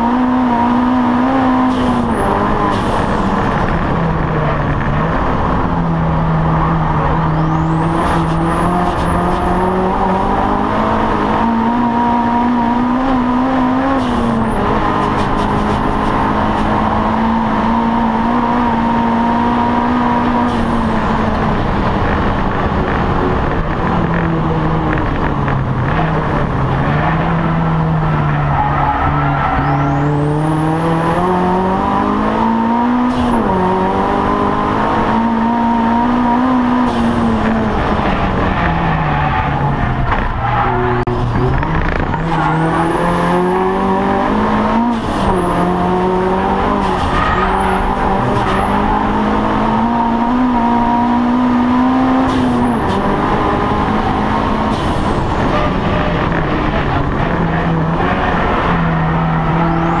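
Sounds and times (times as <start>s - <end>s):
racing car engine from cabin: 0.0s - 60.0s.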